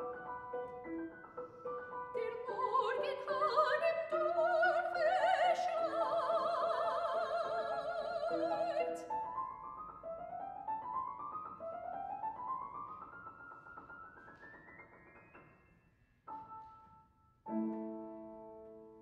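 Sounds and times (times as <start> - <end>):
grand piano playing: 0.0 - 19.0.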